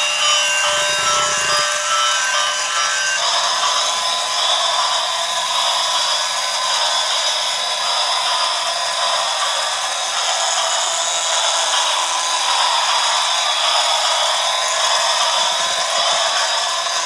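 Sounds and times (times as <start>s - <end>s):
toy train electric motor whirring: 0.0s - 17.0s.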